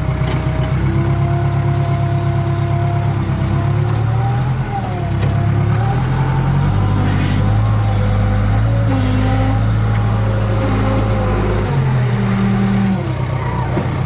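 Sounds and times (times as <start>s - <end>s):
diesel engine under load: 0.0s - 14.0s.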